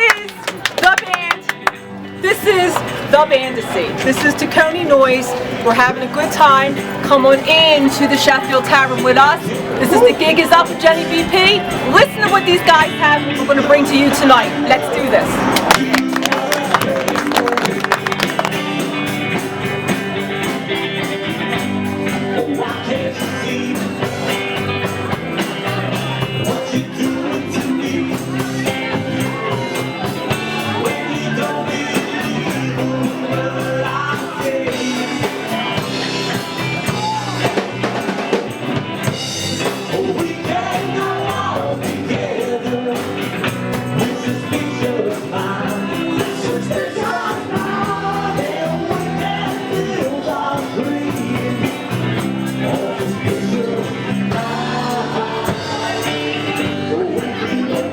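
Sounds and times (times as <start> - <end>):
drum kit beat: 0.0 - 57.9
live band playing: 0.0 - 57.9.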